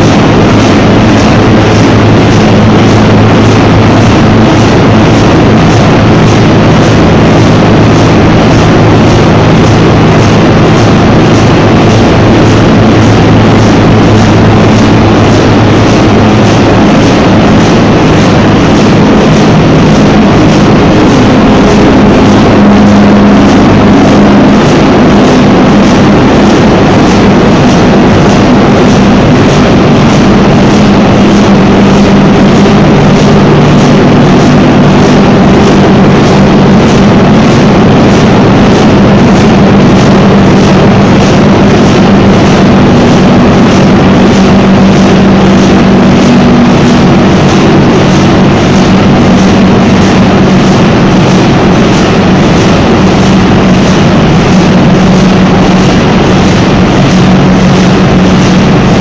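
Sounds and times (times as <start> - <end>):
deep hum: 0.0 - 59.0
large diesel engine running: 0.0 - 59.0
mechanical beat: 0.0 - 59.0.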